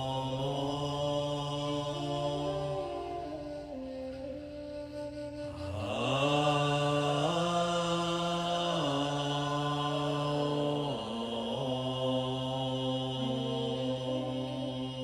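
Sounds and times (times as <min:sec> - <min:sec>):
man chanting in long notes: 0:00.0 - 0:15.0.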